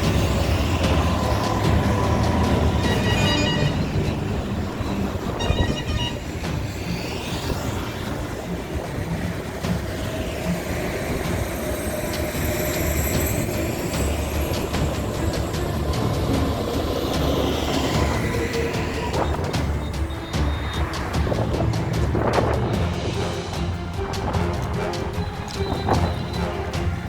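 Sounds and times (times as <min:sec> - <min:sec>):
heavy road traffic rumble: 0:00.0 - 0:27.0.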